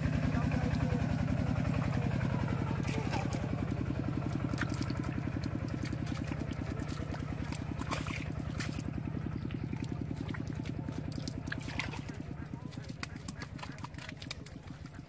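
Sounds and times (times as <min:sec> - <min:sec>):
small engine running: 0:00.0 - 0:15.0
hands splashing in wet mud: 0:00.2 - 0:15.0.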